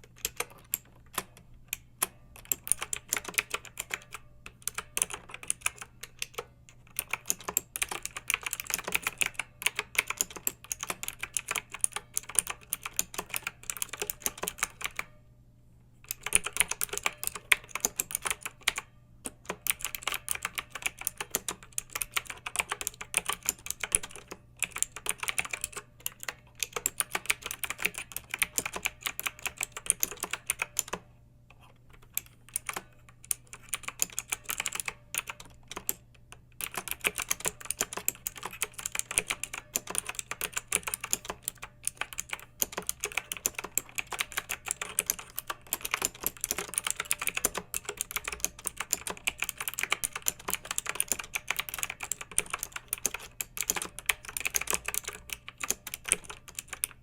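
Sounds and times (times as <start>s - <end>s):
mechanical keyboard typing: 0.0s - 15.2s, 16.0s - 57.0s.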